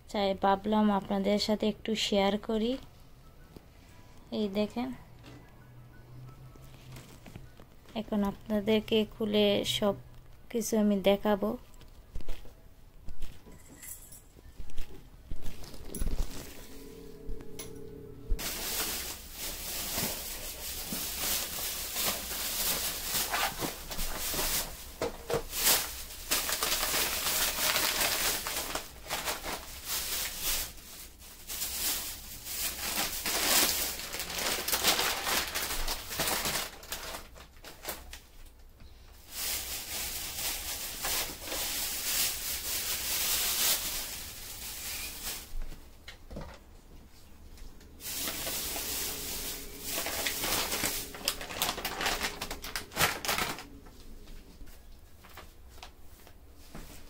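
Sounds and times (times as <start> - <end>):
plastic bags rustling and crinkling: 6.6 - 57.0.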